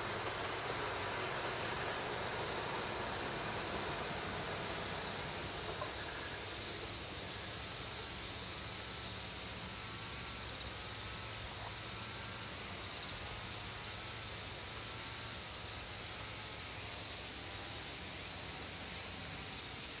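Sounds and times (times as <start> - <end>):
constant hiss: 0.0 - 20.0
insects droning: 0.0 - 20.0.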